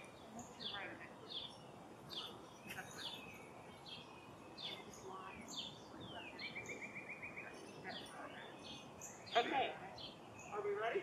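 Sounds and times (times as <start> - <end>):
outdoor background hiss: 0.0 - 11.0
songbirds chirping: 0.0 - 11.0.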